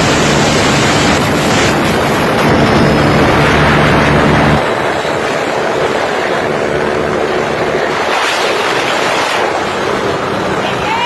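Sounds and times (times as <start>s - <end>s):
motorcycle engines running: 0.0s - 11.0s
road noise: 0.0s - 11.0s
wind rush on microphone: 0.0s - 11.0s.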